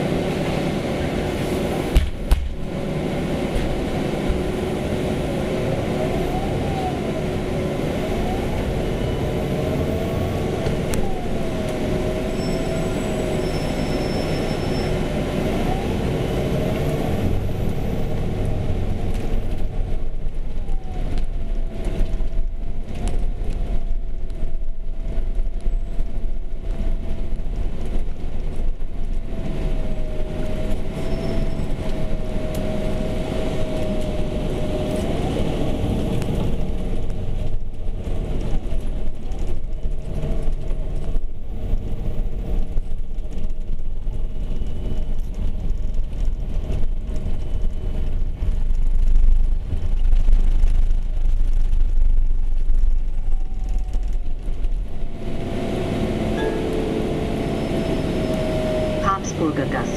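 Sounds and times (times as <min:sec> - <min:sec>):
bus engine rumble and whine: 0:00.0 - 0:59.9.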